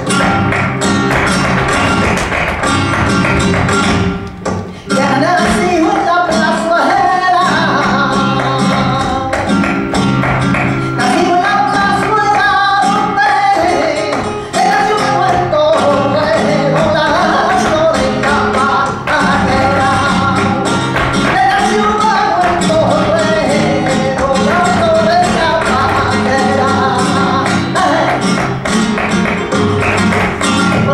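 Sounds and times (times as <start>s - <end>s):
guitar: 0.0s - 30.9s.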